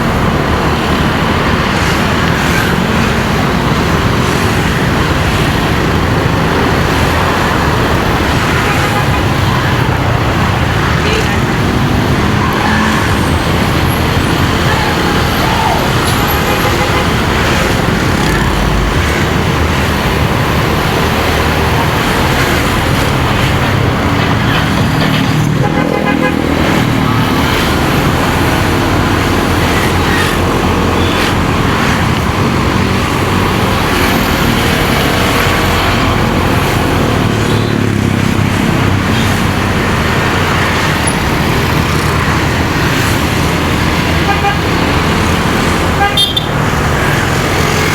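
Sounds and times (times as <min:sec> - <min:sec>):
passing traffic: 0:00.0 - 0:47.9
road and wind noise: 0:00.0 - 0:47.9.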